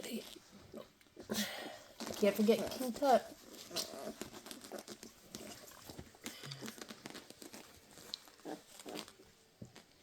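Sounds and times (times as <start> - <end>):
puppies rustling: 0.0 - 10.0.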